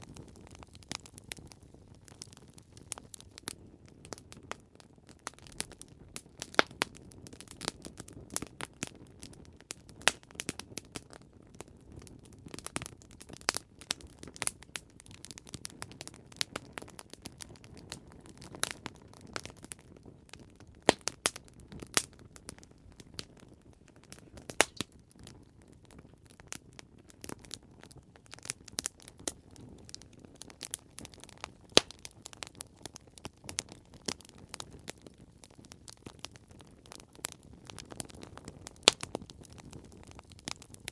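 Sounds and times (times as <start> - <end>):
burning wood popping and snapping: 0.0 - 40.9.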